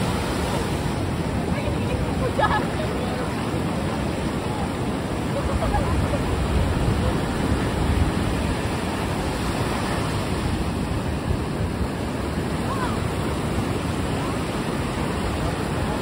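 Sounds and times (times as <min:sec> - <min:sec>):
ocean surf breaking: 0:00.0 - 0:16.0.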